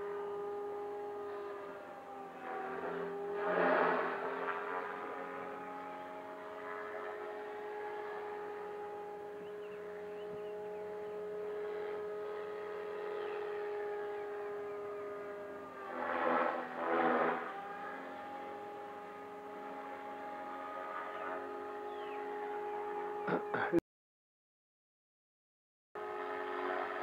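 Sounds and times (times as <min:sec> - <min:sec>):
model aircraft motor whine: 0:00.0 - 0:23.6, 0:26.0 - 0:27.0.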